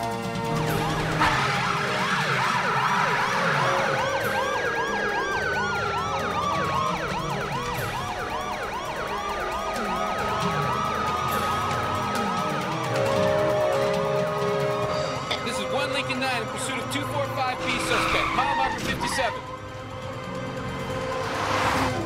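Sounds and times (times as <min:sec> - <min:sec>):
police siren wail: 0:00.0 - 0:22.0
police siren yelp: 0:00.4 - 0:15.8, 0:16.4 - 0:19.8.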